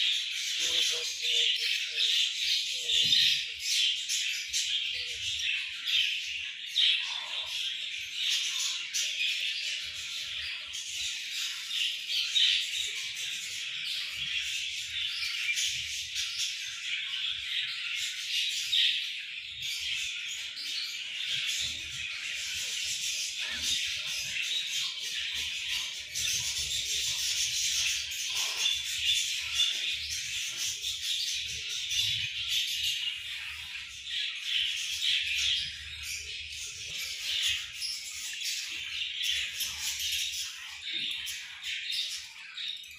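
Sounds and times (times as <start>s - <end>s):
budgerigars chattering and chirping: 0.0s - 42.8s.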